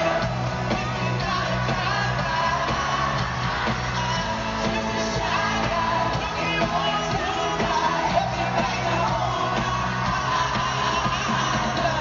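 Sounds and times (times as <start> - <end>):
live pop-rock band: 0.0 - 12.0
person singing lead vocals: 0.0 - 12.0.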